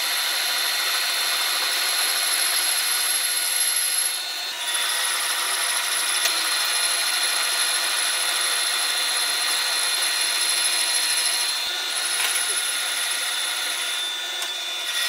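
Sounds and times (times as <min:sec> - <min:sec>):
lathe tool scraping metal: 0:00.0 - 0:15.0.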